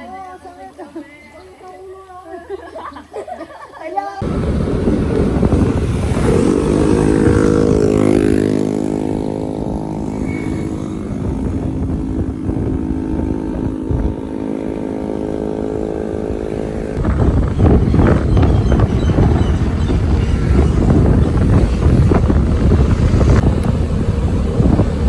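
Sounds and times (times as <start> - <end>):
vehicle engine running: 4.2 - 25.0.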